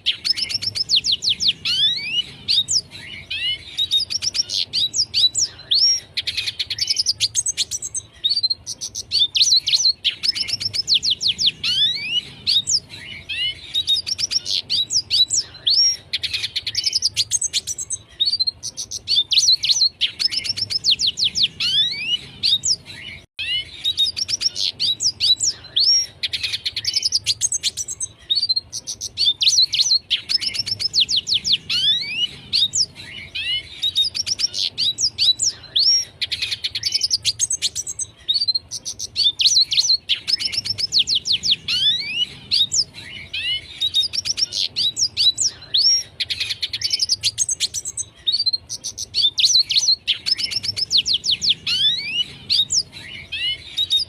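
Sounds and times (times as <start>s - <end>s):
bird twittering song: 0.0s - 54.0s.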